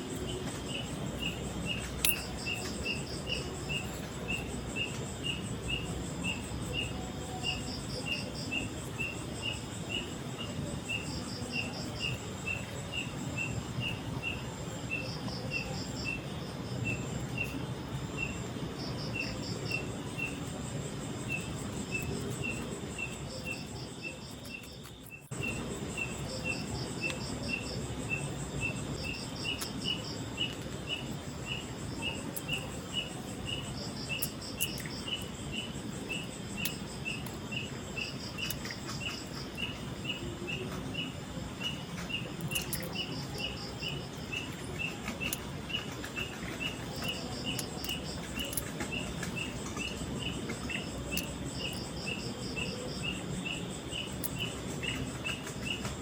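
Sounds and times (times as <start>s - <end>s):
insect chirping: 0.0s - 56.0s
insect rapid trills: 0.0s - 56.0s.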